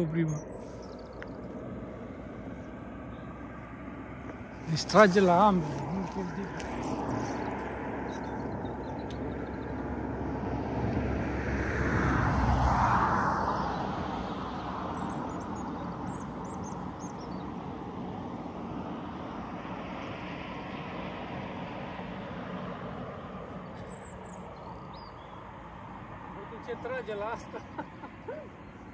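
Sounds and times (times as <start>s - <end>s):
passing engine: 0.0s - 28.9s.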